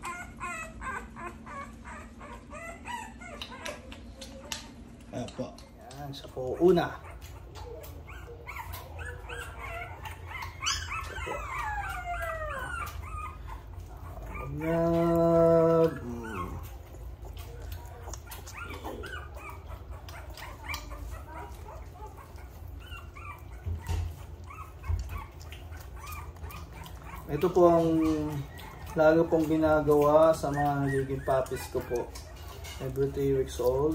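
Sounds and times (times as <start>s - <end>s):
puppy whining and whimpering: 0.0s - 33.9s.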